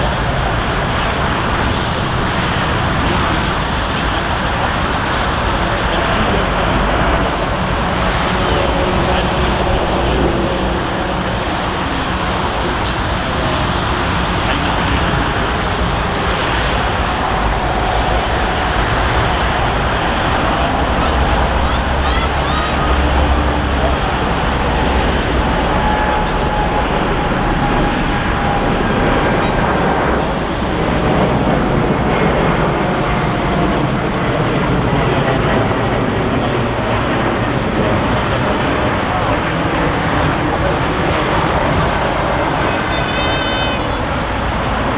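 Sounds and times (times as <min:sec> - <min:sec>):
jet engine noise: 0:00.0 - 0:44.9.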